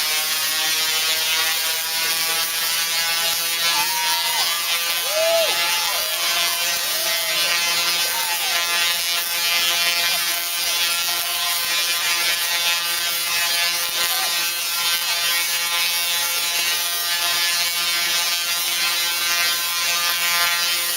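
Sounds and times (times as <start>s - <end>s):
tesla coil electrical crackle: 0.0s - 20.9s.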